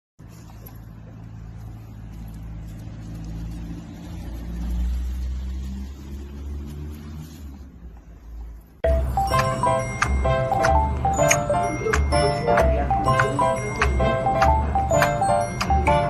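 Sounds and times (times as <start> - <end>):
vehicle engine running: 0.2 - 16.0.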